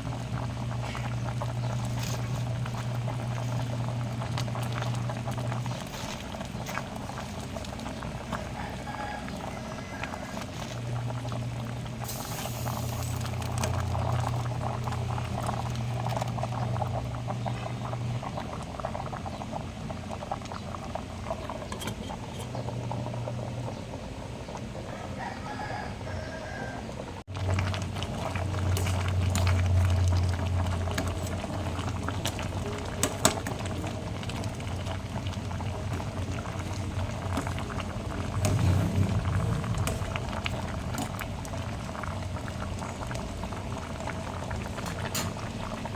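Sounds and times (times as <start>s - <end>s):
low steady hum: 0.0s - 25.2s, 25.8s - 45.9s
stew bubbling in a pot: 0.0s - 45.9s.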